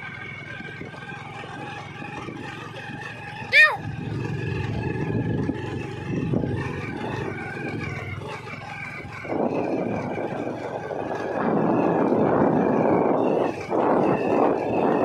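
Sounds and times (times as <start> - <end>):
vehicle engine on dirt track: 0.0 - 15.0
wind buffeting microphone: 0.0 - 15.0.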